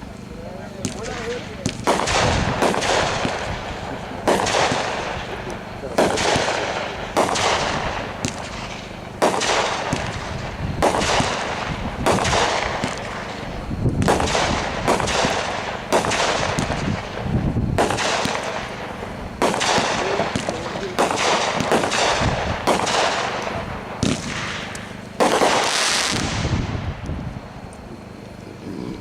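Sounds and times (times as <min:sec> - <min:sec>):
firework burst rush: 0:00.0 - 0:27.6
fireworks reports: 0:00.0 - 0:28.8.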